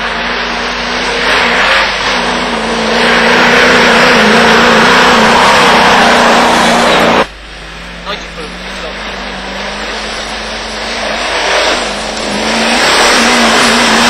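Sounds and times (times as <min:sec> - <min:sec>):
engine running at high revs: 0:00.0 - 0:14.0.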